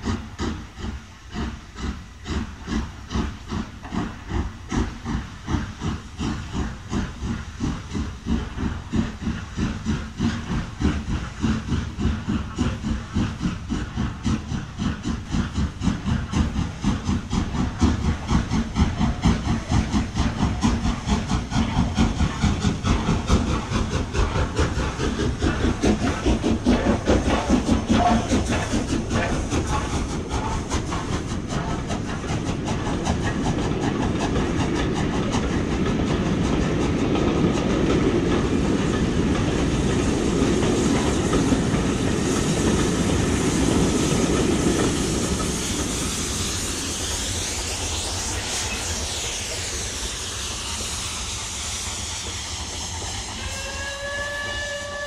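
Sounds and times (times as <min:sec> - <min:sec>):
steam train running: 0:00.0 - 0:55.0.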